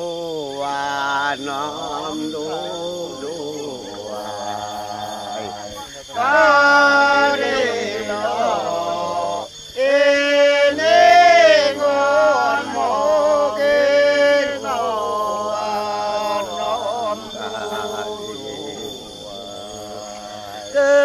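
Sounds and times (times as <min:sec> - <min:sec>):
voice singing chant-like notes: 0:00.0 - 0:21.0.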